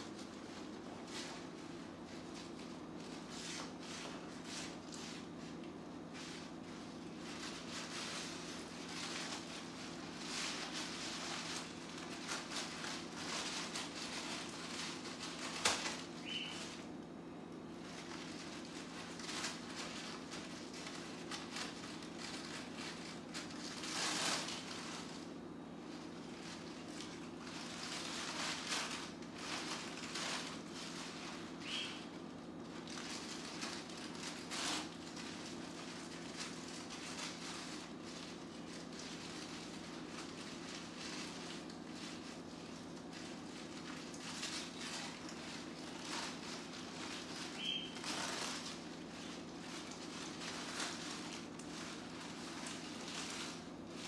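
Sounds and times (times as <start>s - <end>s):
steady low hum: 0.0s - 54.0s
tissue paper rustling: 0.0s - 54.0s.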